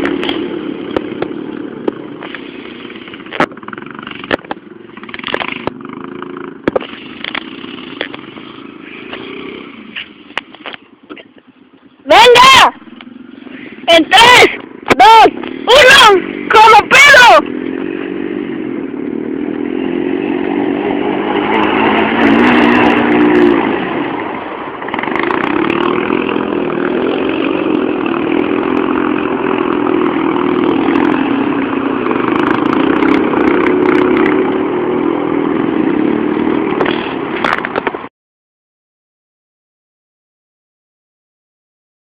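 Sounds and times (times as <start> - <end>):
motorcycle engine running: 0.0 - 38.1.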